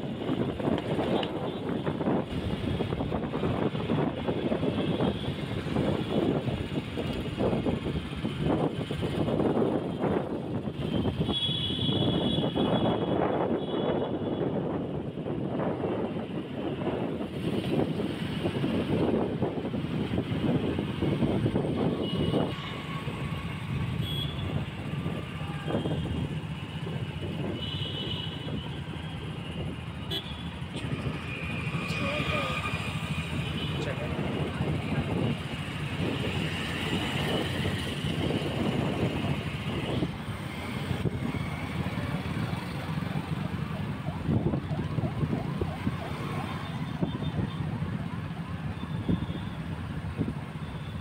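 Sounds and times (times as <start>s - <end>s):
wind over microphone: 0.0s - 30.0s, 30.6s - 51.0s
road and engine noise: 0.0s - 51.0s.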